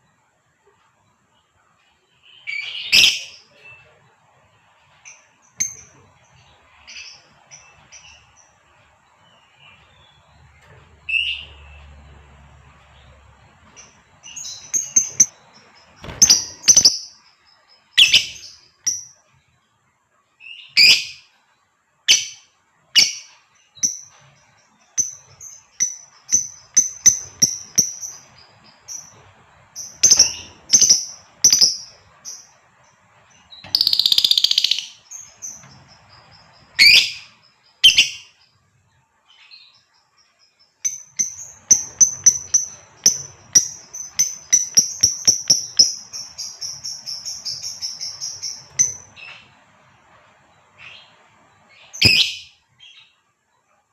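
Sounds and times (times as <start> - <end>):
lovebird chirping: 2.2 - 4.0, 4.9 - 19.4, 20.4 - 21.4, 22.0 - 38.6, 39.2 - 53.3.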